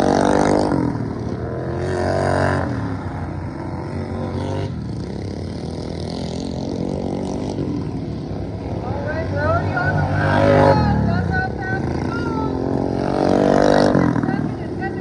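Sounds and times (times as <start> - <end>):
racing lawnmower engines revving: 0.0 - 15.0.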